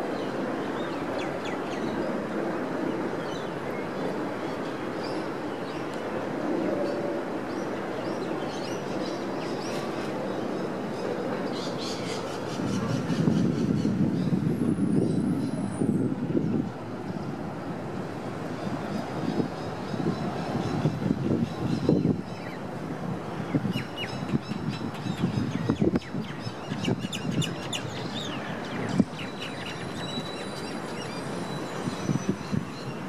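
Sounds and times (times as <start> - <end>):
distant traffic hum: 0.0 - 33.0.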